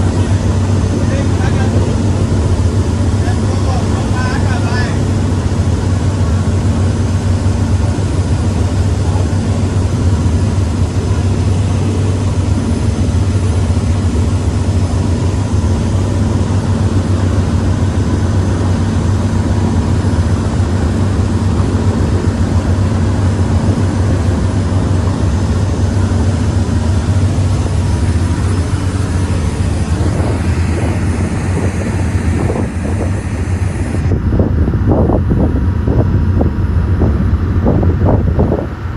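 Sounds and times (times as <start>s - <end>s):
engine droning: 0.0s - 38.9s
wind noise on microphone: 0.0s - 38.9s.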